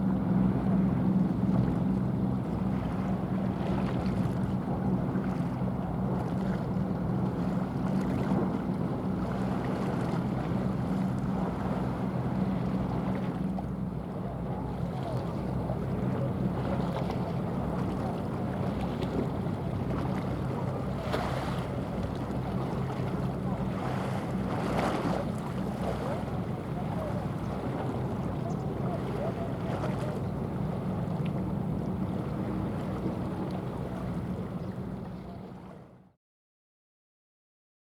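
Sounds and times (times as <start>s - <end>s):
ship engine droning: 0.0s - 36.0s.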